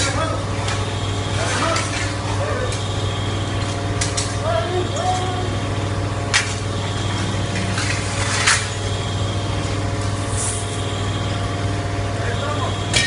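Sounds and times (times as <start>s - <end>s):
hydraulic baler pump humming: 0.0s - 13.0s.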